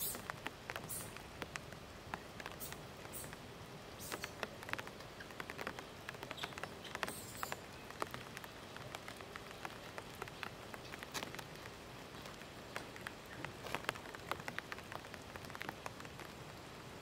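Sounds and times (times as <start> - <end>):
light rain pattering on leaves: 0.0 - 17.0.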